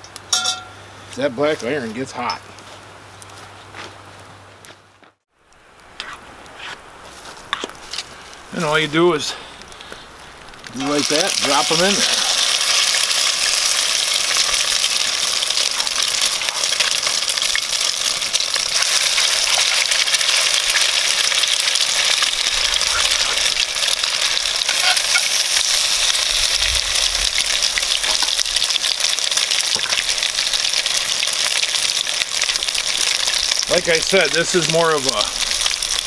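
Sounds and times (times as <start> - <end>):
patties sizzling in hot oil: 5.4 - 36.0.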